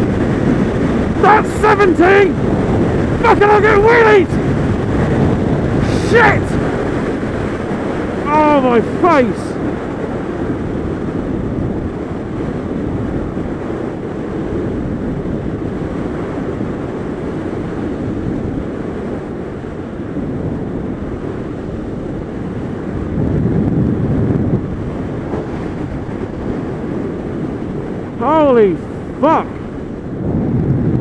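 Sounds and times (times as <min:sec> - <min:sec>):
motorcycle engine and tyre noise: 0:00.0 - 0:01.3, 0:02.3 - 0:31.0
wind buffeting microphone: 0:00.0 - 0:31.0.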